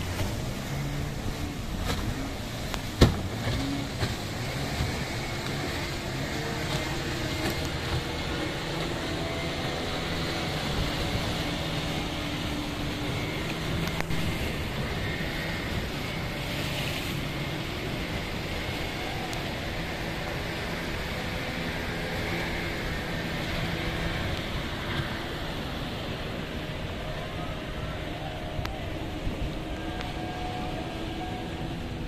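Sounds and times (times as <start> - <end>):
waves breaking on rocks: 0.0 - 27.7
small boat motors running: 0.0 - 32.0.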